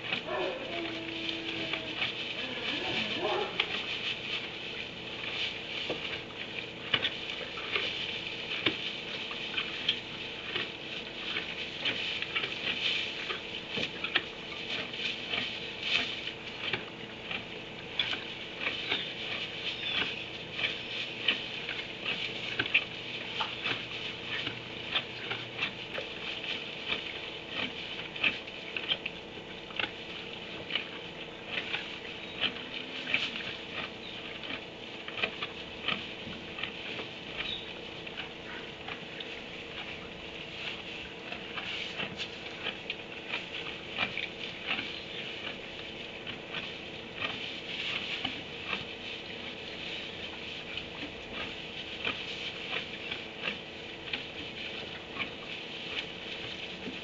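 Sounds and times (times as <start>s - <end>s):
clicks and rustling in straw: 0.0s - 57.0s
faint electrical hum: 0.0s - 57.0s.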